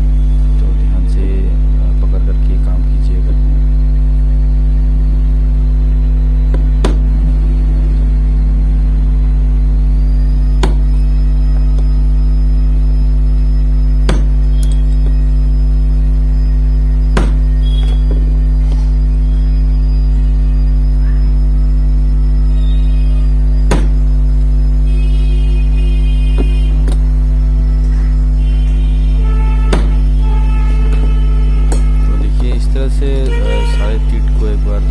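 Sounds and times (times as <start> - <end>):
loud mains hum: 0.0 - 34.9.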